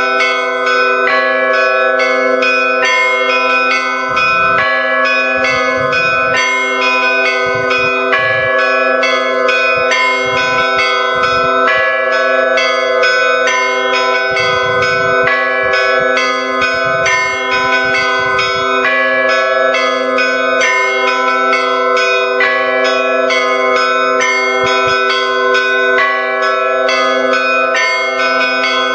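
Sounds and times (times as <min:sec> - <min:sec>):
deep bell stroke: 0:00.0 - 0:28.9
hum of large bells: 0:00.0 - 0:28.9
small church bells ringing: 0:00.0 - 0:28.9.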